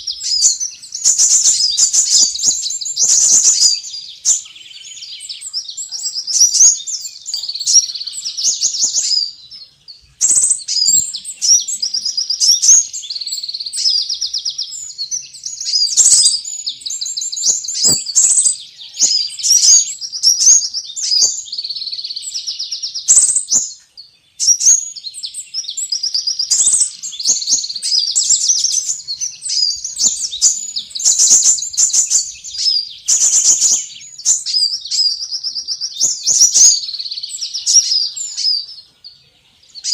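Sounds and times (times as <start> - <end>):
bird chattering and trilling: 0.0 - 9.6, 10.2 - 39.9.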